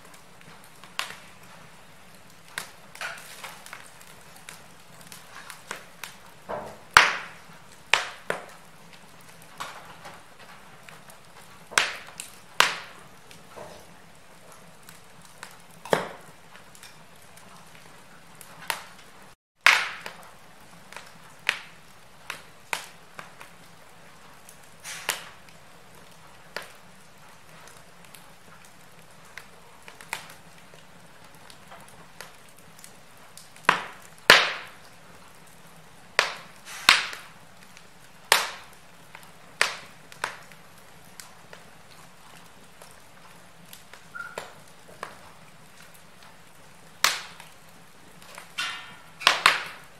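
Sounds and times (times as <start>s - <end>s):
soft steady fire hiss: 0.0s - 49.9s
wood fire crackling and popping: 0.0s - 49.9s.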